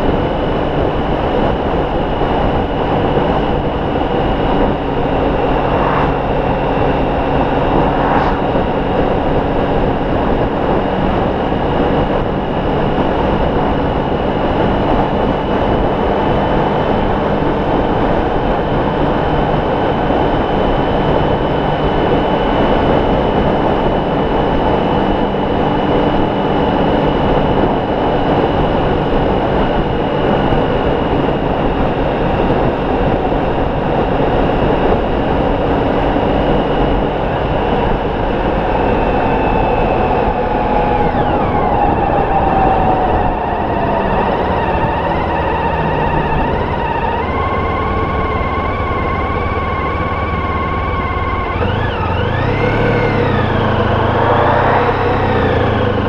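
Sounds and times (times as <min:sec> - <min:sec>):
steady high whine: 0:00.0 - 0:56.0
wind and road noise: 0:00.0 - 0:56.0.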